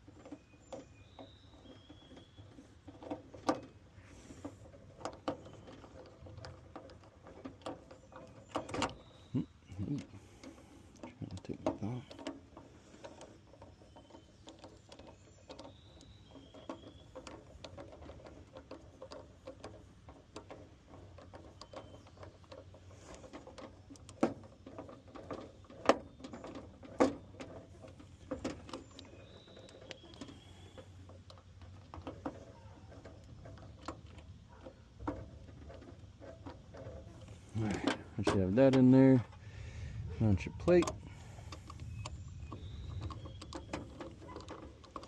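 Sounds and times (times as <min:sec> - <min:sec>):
hand tools clicking on metal parts: 0:04.4 - 0:45.0.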